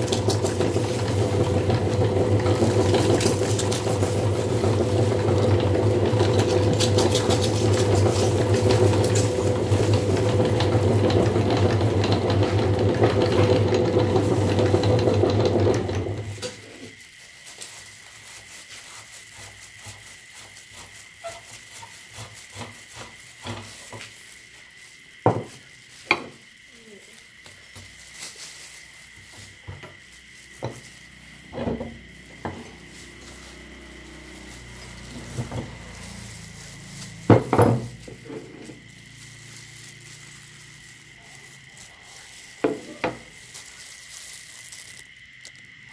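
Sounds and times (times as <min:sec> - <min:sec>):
meat grinder motor humming: 0:00.0 - 0:17.3, 0:18.2 - 0:26.3, 0:28.6 - 0:45.8.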